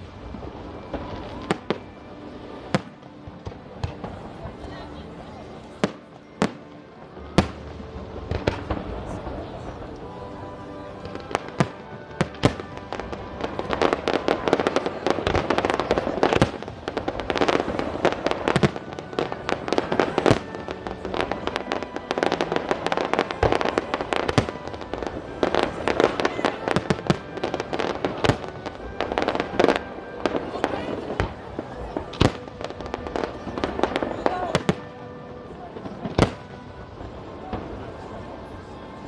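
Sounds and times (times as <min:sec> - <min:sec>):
fireworks bangs and crackles: 0:00.0 - 0:39.0
music playing: 0:00.0 - 0:39.0.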